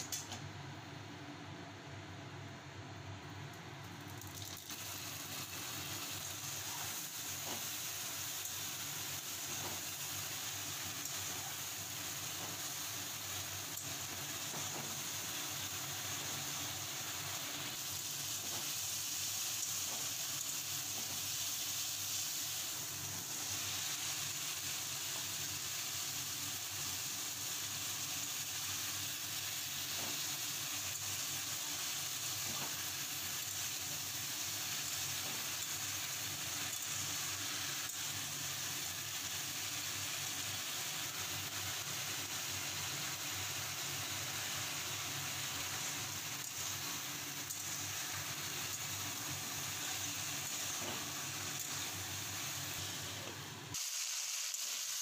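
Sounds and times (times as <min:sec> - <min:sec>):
hot oil sizzling in a wok: 0:03.9 - 0:55.0.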